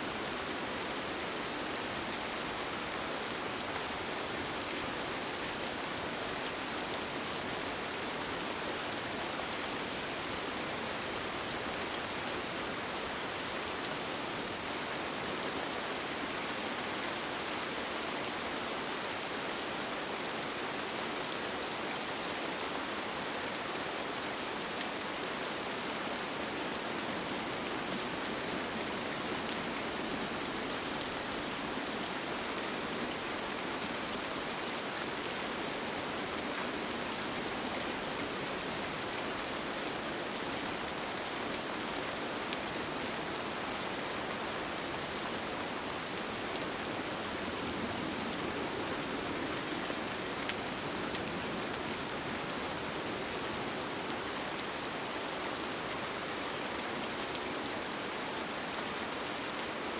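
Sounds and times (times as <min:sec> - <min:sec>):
rain on a tent: 0:00.0 - 0:59.9.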